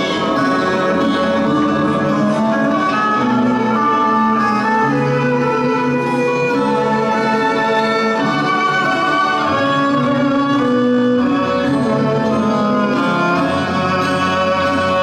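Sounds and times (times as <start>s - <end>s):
strings holding long notes: 0.0s - 15.0s.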